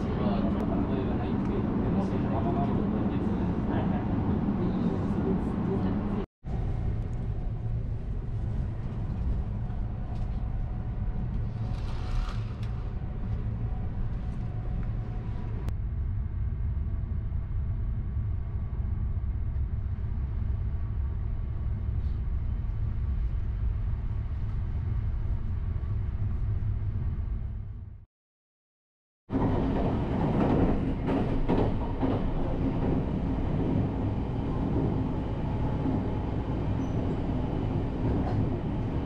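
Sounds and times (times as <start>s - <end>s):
train rumble from inside: 0.0s - 28.0s, 29.3s - 39.0s.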